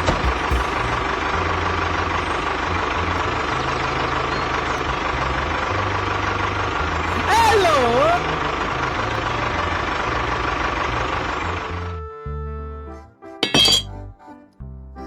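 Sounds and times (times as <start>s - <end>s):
engine running with low hum: 0.0s - 13.8s.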